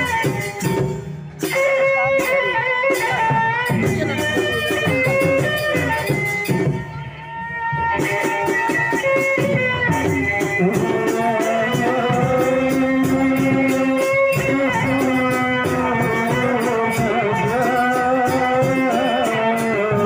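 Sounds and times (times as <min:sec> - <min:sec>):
double-headed drum beating: 0:00.0 - 0:20.0
jingling percussion: 0:00.0 - 0:20.0.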